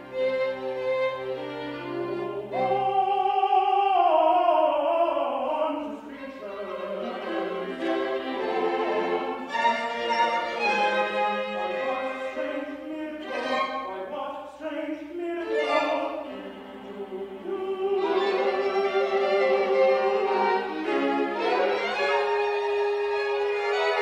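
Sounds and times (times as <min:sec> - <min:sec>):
violin playing: 0:00.0 - 0:03.3, 0:06.1 - 0:24.0
singing voices: 0:02.2 - 0:24.0.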